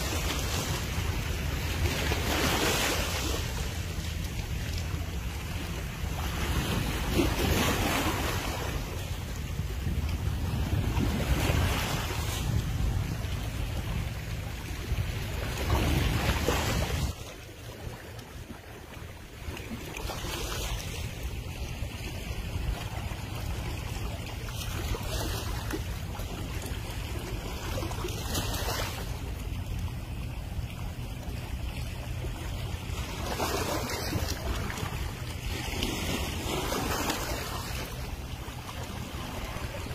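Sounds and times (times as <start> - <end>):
waves washing on rocky shore: 0.0 - 39.9
wind buffeting microphone: 0.0 - 39.9.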